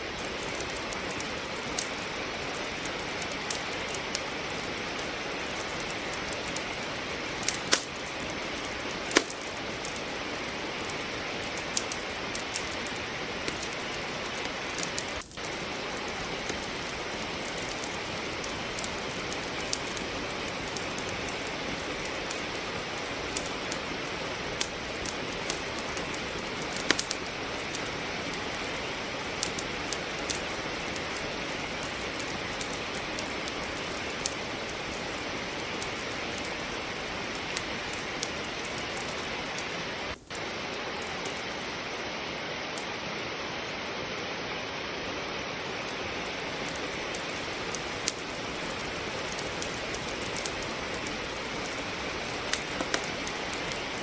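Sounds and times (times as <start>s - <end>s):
firewood crackling and popping: 0.0s - 54.0s
rain hiss: 0.0s - 54.0s.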